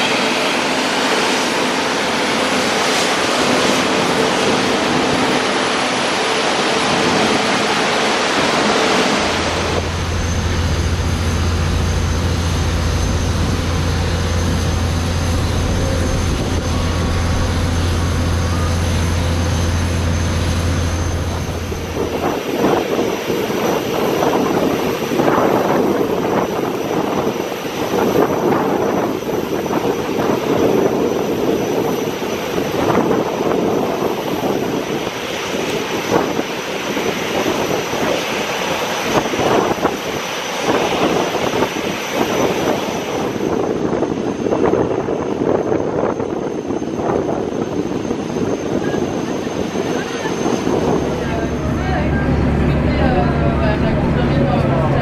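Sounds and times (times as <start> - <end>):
jet airliner engine rumble: 0.0 - 55.0.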